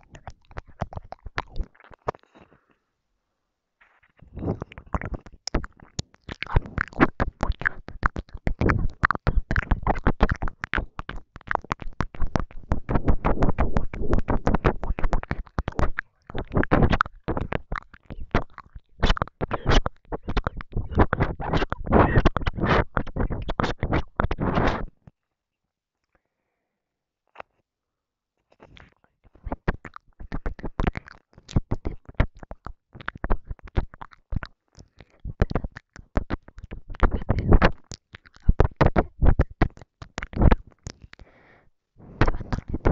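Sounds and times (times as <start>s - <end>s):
wet mouth clicks and smacks: 0.0s - 2.4s, 4.4s - 25.0s, 28.5s - 41.3s, 42.2s - 42.9s
breathy whispering: 0.0s - 2.9s, 4.0s - 24.9s, 28.4s - 42.9s.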